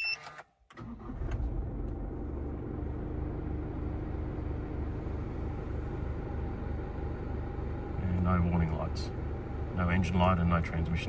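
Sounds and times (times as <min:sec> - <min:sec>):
diesel engine idling: 0:00.8 - 0:11.0.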